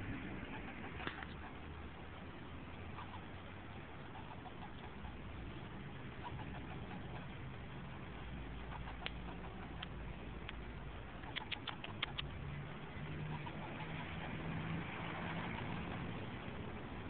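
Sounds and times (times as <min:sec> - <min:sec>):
low steady hum: 0:00.0 - 0:17.0
squirrel barking chucks: 0:00.2 - 0:17.0.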